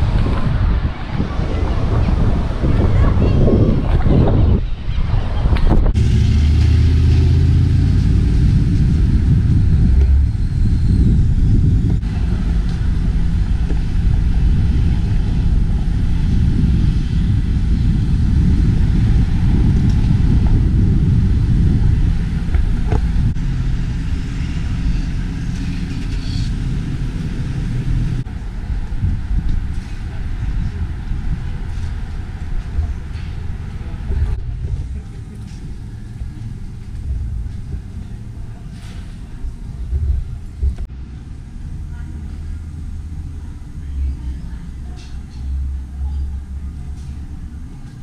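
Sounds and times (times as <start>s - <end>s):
rumble of passing vehicles: 0.0s - 48.0s.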